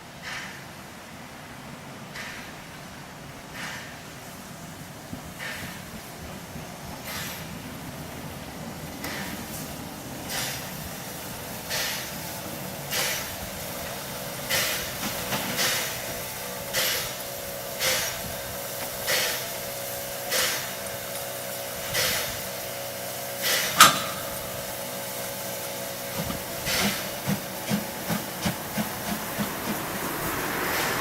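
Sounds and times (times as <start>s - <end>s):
steady steam hiss: 0.0s - 31.0s
steam locomotive chuffing: 2.0s - 31.0s.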